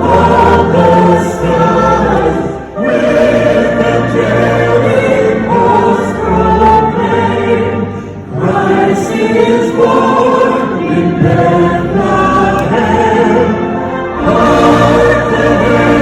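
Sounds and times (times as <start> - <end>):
crowd singing a carol: 0.0 - 16.0.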